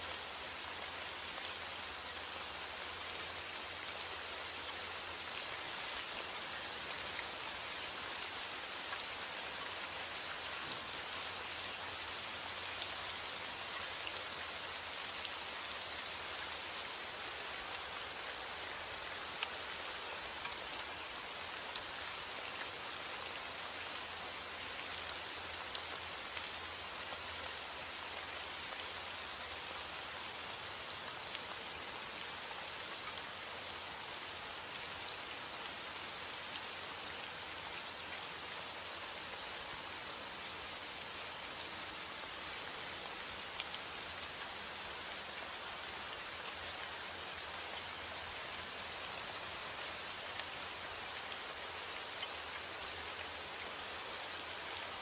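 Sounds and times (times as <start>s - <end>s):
heavy rain: 0.0s - 55.0s
raindrops ticking on surface: 0.1s - 55.0s.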